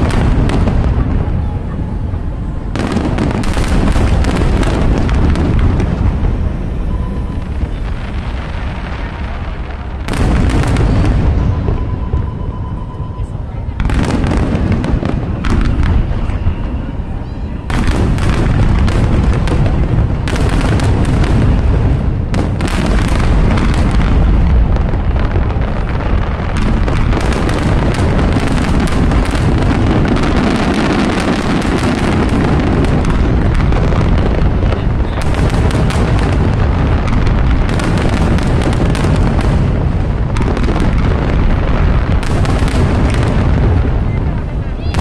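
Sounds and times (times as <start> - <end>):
fireworks booming and crackling: 0.0 - 45.0.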